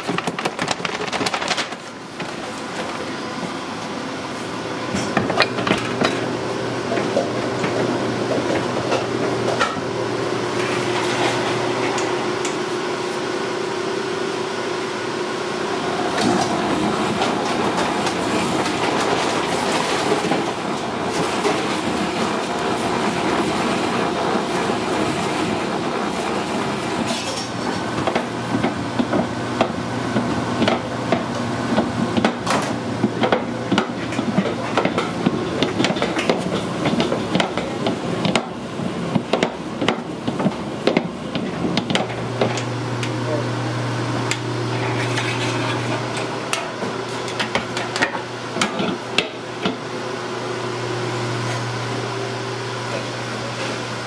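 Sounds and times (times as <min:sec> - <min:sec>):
dough mixer motor hum: 0:00.0 - 0:54.0.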